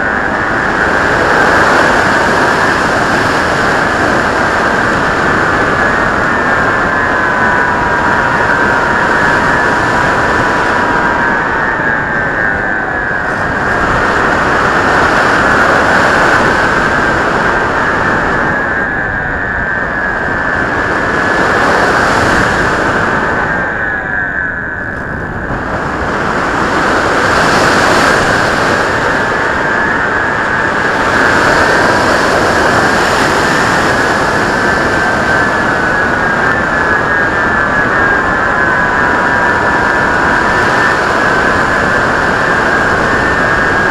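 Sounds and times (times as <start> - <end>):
wind rush: 0.0 - 43.9.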